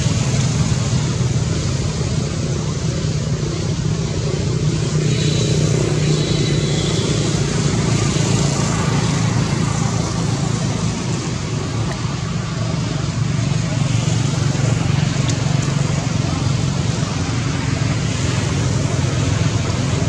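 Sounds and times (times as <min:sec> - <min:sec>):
rushing noise: 0:00.0 - 0:20.0.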